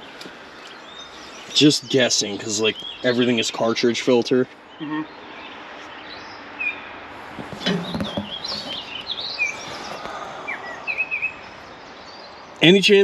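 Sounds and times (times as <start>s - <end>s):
outdoor background noise: 0.0s - 13.0s
small birds chirping: 0.0s - 13.0s.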